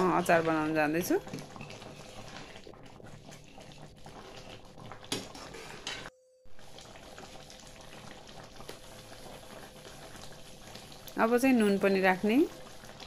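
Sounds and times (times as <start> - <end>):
pickle simmering and bubbling: 0.0 - 13.0.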